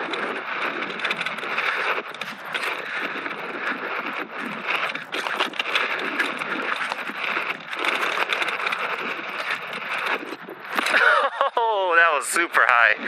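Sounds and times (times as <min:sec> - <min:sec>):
bike clicks and rattles: 0:00.0 - 0:13.0
tyres crunching on gravel: 0:00.0 - 0:13.0.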